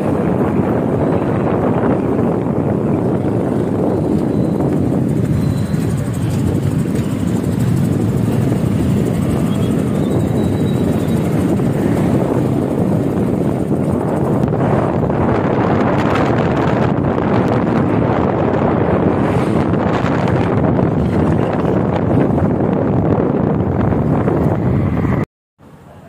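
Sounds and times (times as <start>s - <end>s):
motorbike engine: 0.0s - 24.8s
wind buffeting microphone: 0.0s - 25.3s.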